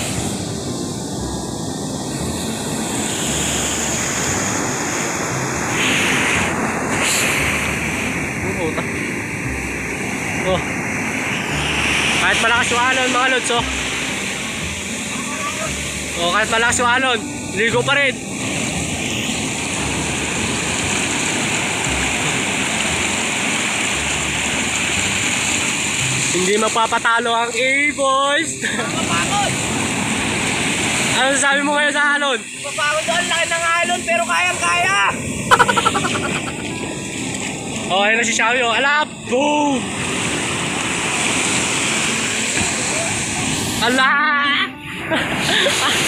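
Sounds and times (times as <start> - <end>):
heavy ocean surf breaking: 0.0 - 46.0.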